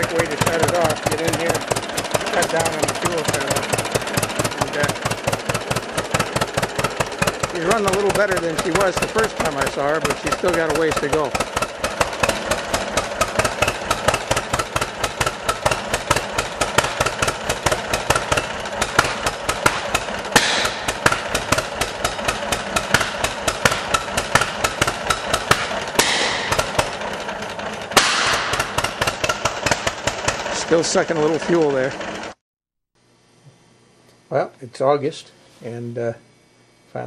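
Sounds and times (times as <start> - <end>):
tractor engine idling: 0.0 - 32.4.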